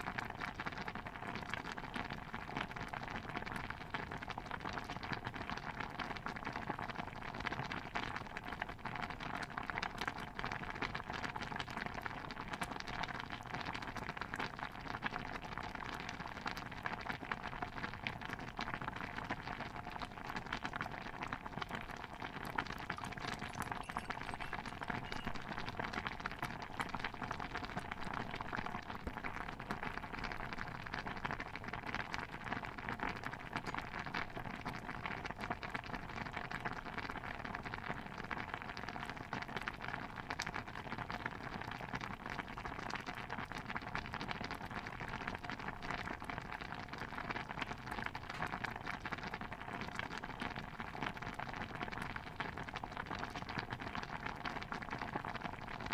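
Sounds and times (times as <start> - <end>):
stew bubbling in a pot: 0.0 - 55.9.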